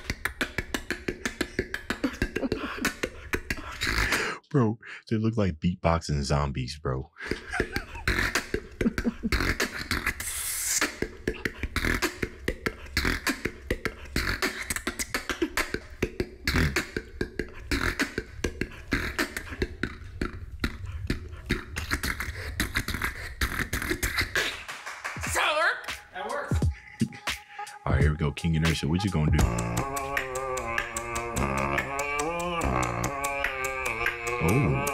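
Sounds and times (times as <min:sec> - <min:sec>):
beatboxing: 0:00.0 - 0:04.4, 0:07.2 - 0:34.9.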